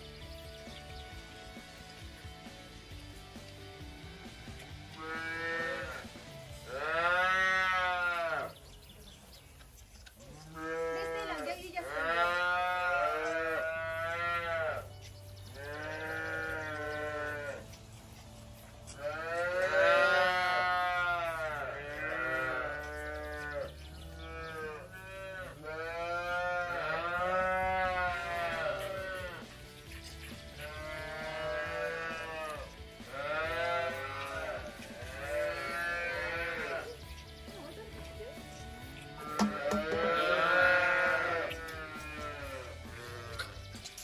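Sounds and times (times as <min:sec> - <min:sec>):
calves bawling: 0:00.0 - 0:44.0.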